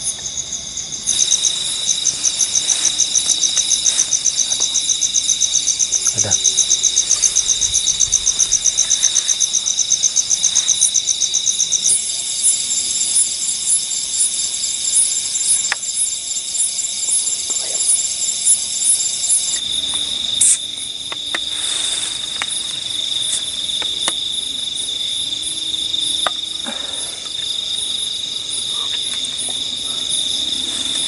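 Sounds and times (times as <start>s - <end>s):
night insects chirping: 0.0s - 31.0s.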